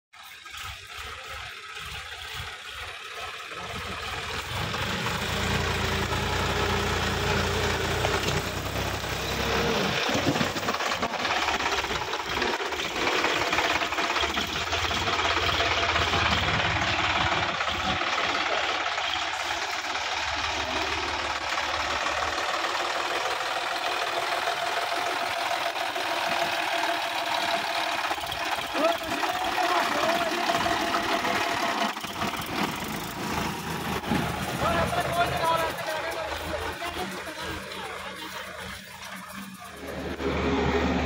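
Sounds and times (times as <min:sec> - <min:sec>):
tractor diesel engine working hard: 0:00.1 - 0:41.0.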